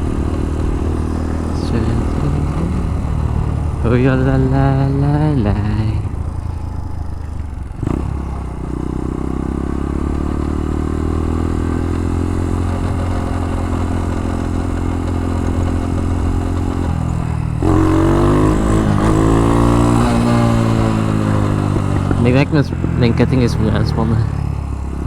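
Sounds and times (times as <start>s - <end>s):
mini motorcycle engine running: 0.0s - 25.0s.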